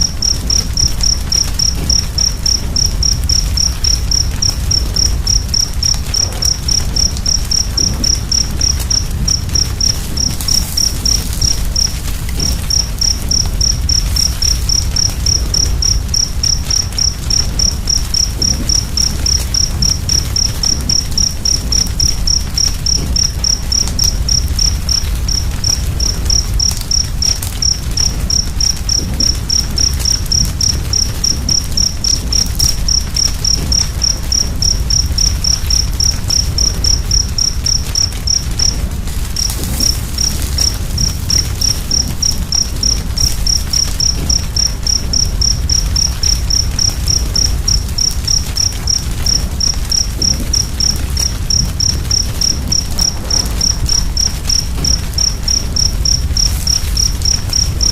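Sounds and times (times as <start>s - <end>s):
cricket chirping: 0.0s - 57.9s
fire rumbling with faint crackles: 0.0s - 57.9s.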